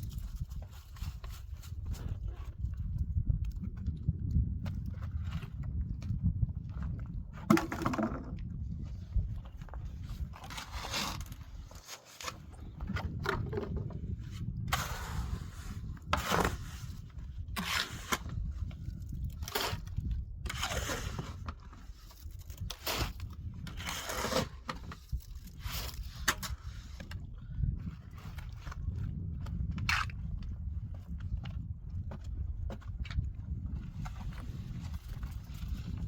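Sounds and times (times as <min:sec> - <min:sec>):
irregular scrapes and crackles: 0:00.0 - 0:36.0.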